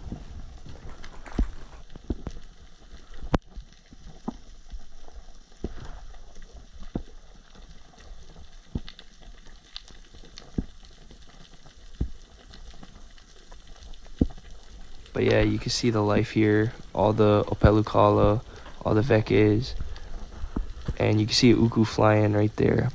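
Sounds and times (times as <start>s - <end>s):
underwater crackling hiss: 0.0s - 22.9s
sharp underwater clicks: 0.6s - 22.9s.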